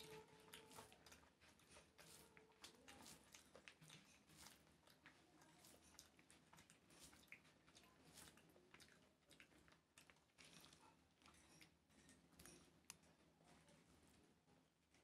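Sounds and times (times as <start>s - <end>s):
fingers mixing rice: 0.0s - 13.2s
soft chewing clicks: 0.0s - 15.0s.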